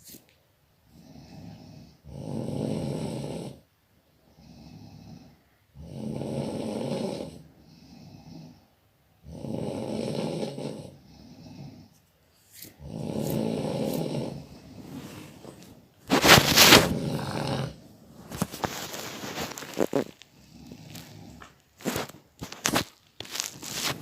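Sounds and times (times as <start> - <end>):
person snoring: 0.9 - 3.6, 4.3 - 8.6, 9.2 - 11.9, 12.8 - 24.0.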